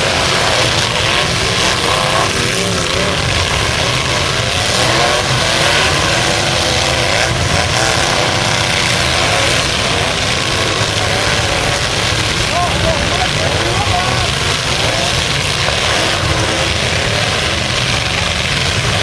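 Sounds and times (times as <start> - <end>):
pickup truck engines revving: 0.0 - 19.0.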